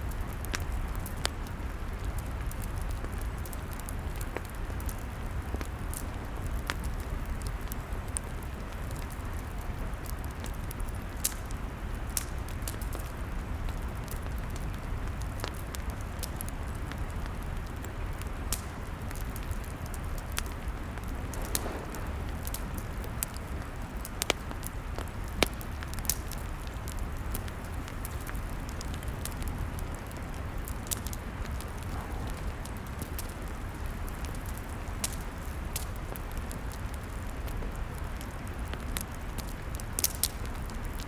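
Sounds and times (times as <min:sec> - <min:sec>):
log fire crackling: 0:00.0 - 0:41.0
low fire rumble: 0:00.0 - 0:41.0.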